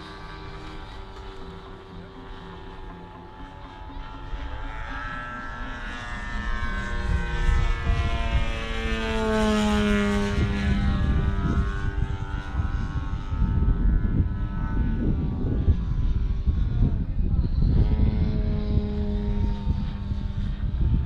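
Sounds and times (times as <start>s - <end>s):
model airplane engine and propeller: 0.0s - 21.0s.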